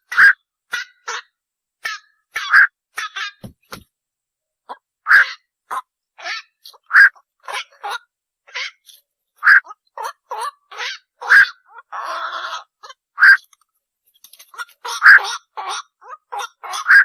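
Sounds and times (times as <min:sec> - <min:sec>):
herons croaking calls: 0:00.0 - 0:03.7, 0:04.7 - 0:13.4, 0:14.4 - 0:17.0.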